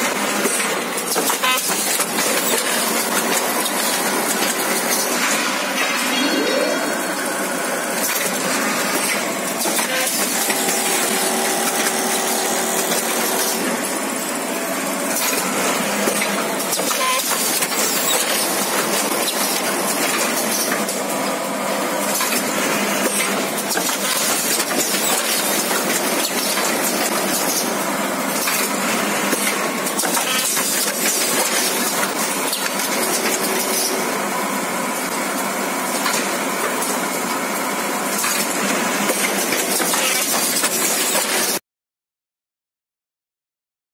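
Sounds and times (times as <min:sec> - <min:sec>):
bag making machine clattering: 0:00.0 - 0:06.2, 0:07.0 - 0:41.6.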